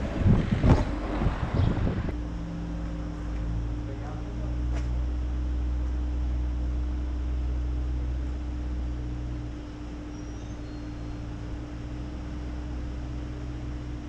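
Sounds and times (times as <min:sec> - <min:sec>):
steady hum: 0:00.0 - 0:14.0
traffic engine rumble: 0:00.0 - 0:14.0.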